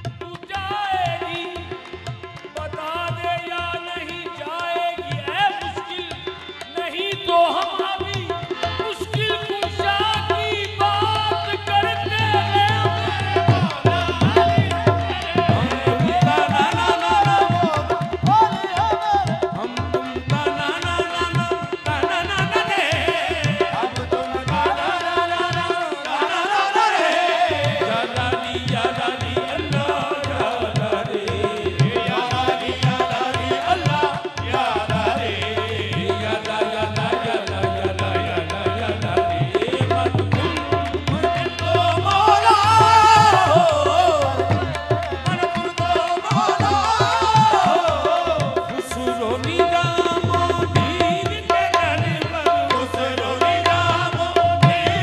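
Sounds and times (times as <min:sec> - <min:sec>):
harmonium drone: 0:00.0 - 0:55.0
tabla drumming: 0:00.0 - 0:55.0
group of voices singing: 0:08.0 - 0:55.0.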